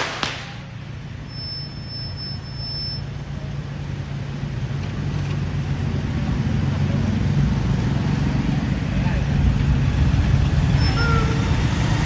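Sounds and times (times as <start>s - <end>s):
pickup truck engines rumbling: 0.0s - 12.0s.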